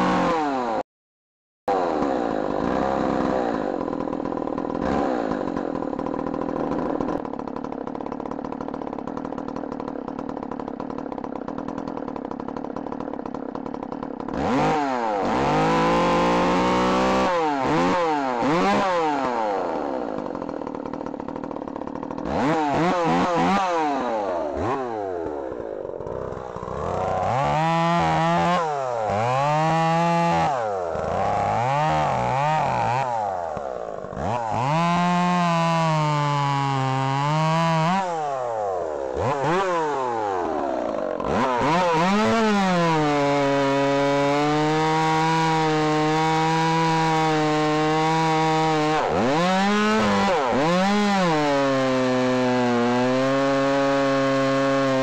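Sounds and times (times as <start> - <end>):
chainsaw engine idling and revving: 0.0 - 0.8, 1.7 - 55.0.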